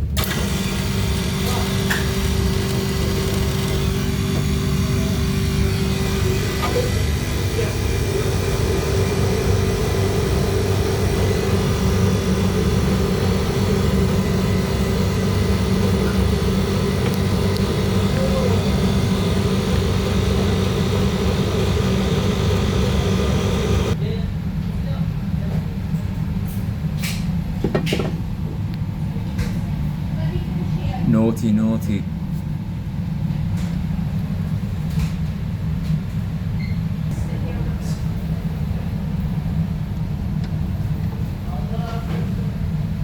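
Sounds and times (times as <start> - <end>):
condensing unit mechanical hum: 0.0 - 43.0.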